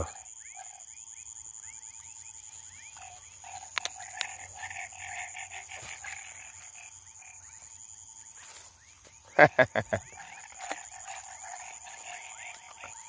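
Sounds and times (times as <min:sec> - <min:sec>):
frogs chirping: 0:00.0 - 0:13.0.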